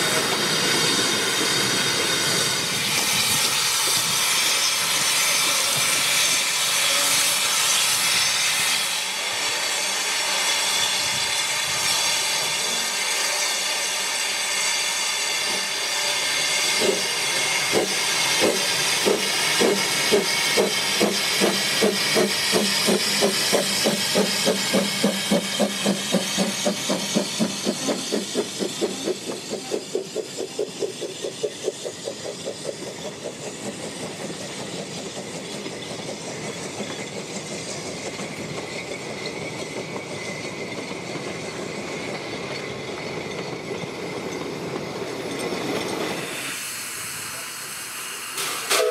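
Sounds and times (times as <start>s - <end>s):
steam hissing: 0.0s - 48.9s
steam locomotive chuffing: 0.0s - 48.9s.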